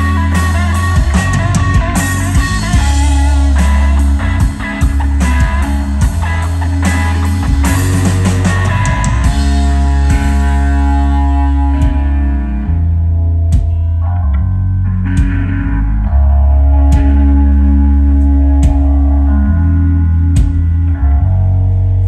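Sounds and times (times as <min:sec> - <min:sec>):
rock band playing instrumental: 0:00.0 - 0:14.1, 0:14.8 - 0:21.8.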